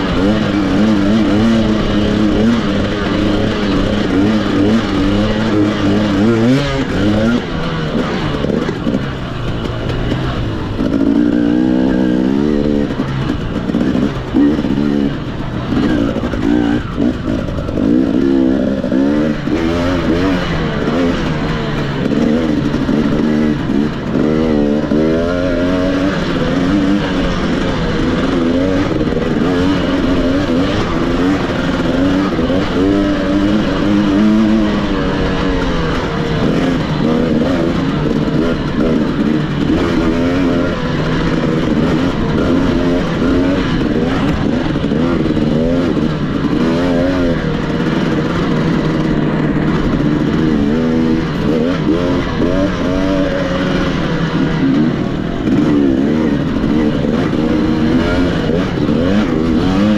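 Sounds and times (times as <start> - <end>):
racing engine revving: 0.0 - 59.9.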